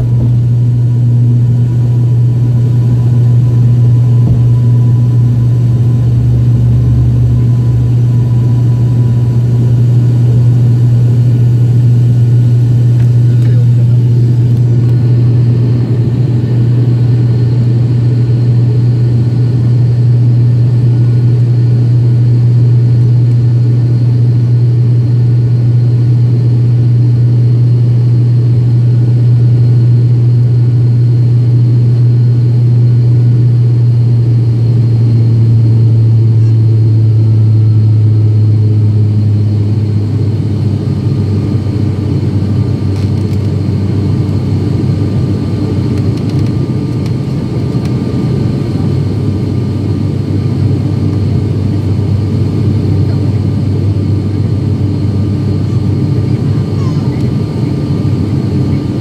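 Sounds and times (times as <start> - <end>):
turboprop engine cabin drone: 0.0 - 59.0.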